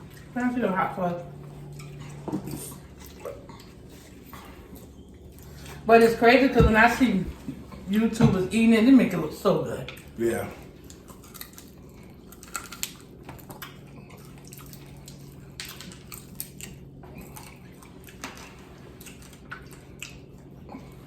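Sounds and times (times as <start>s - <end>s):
chewing and crunching: 0.0s - 8.2s, 9.0s - 21.0s.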